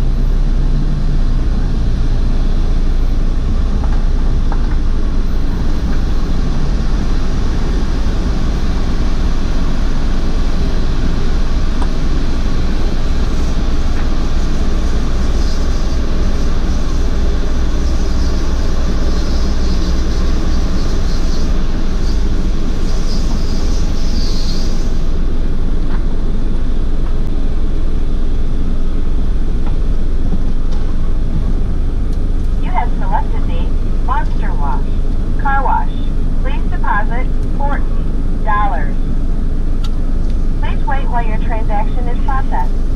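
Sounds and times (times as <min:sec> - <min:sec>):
car wash rumbling: 0:00.0 - 0:42.9.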